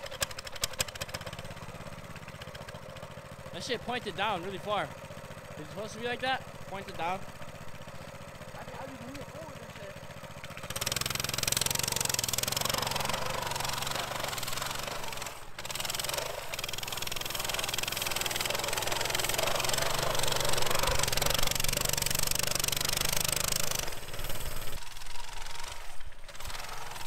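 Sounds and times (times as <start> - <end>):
small motorbike engine revving: 0.0 - 27.0.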